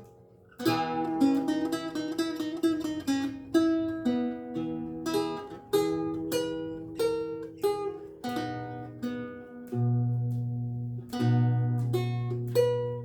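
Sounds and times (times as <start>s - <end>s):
lute plucked solo: 0.0s - 13.0s.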